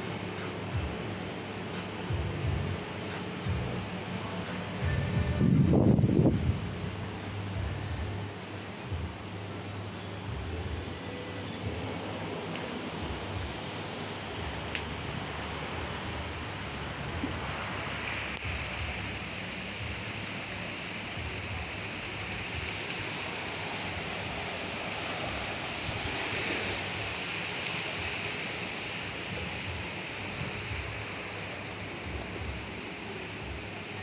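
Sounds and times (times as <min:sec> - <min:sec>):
sea surf washing on beach: 0:00.0 - 0:34.0.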